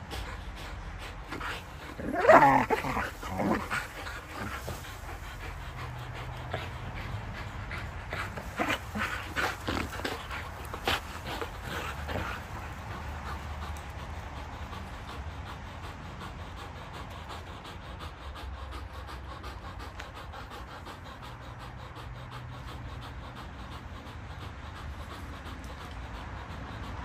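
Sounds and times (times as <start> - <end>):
dogs panting: 0.0 - 27.0.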